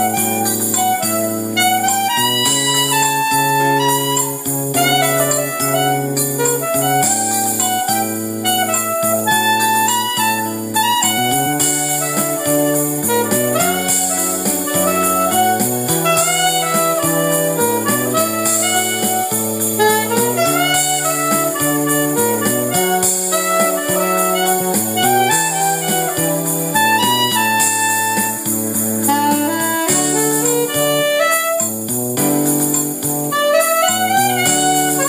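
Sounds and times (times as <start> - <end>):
low chords with light beat: 0.0 - 35.0
saxophone melody: 0.0 - 35.0.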